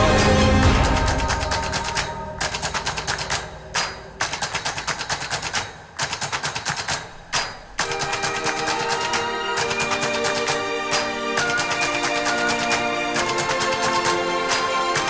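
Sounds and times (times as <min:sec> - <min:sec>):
rapid sharp hits: 0:00.0 - 0:15.0.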